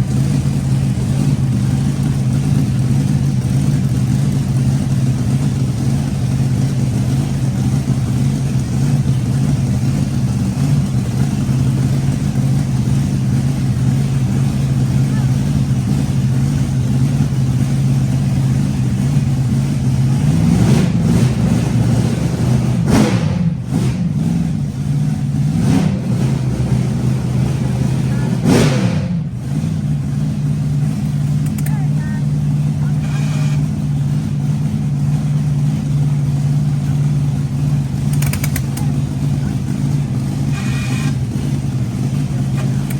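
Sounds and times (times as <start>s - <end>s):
engine idling loudly: 0.0s - 42.9s.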